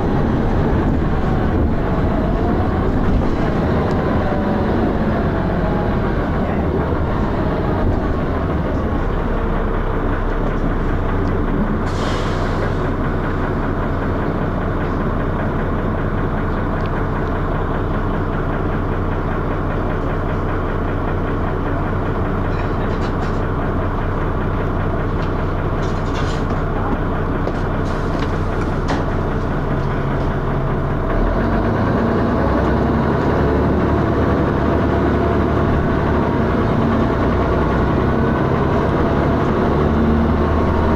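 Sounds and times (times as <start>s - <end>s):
bus diesel engine thrashing: 0.0s - 40.9s.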